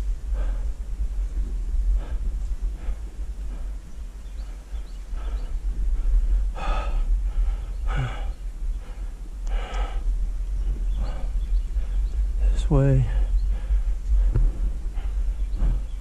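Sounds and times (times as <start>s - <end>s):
heavy effortful breathing: 0.0s - 16.0s
steady low rumble: 0.0s - 16.0s.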